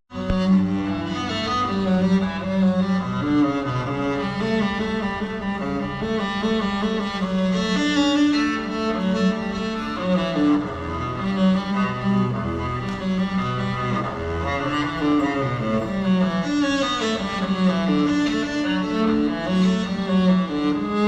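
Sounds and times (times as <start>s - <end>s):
cello and violins playing: 0.1s - 21.0s.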